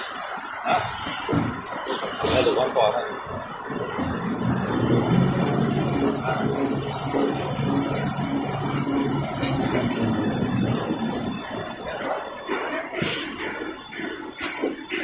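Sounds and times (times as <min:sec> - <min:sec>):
high-pitched drive whine: 0:00.0 - 0:15.0
low machine hum: 0:00.7 - 0:15.0.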